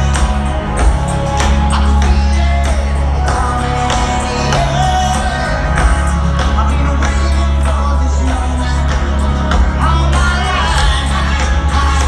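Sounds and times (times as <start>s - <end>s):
heavy bass: 0.0s - 12.0s
live rock band through pa: 0.0s - 12.0s
person singing: 0.0s - 12.0s.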